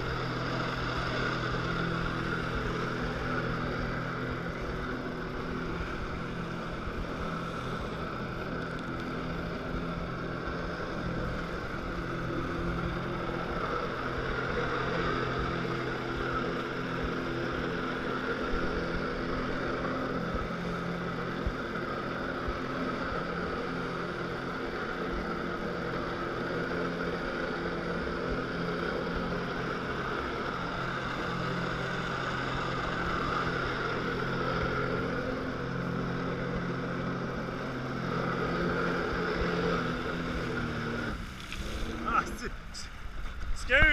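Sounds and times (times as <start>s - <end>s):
watercraft engine at high power: 0.0s - 43.9s.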